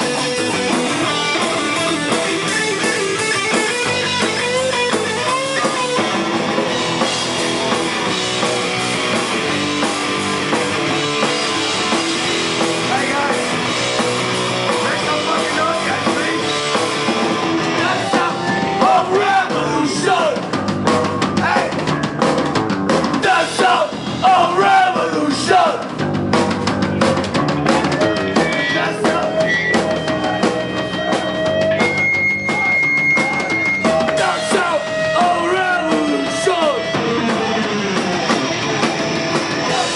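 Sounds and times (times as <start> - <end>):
distorted electric guitars: 0.0 - 39.9
drum kit: 0.0 - 39.9.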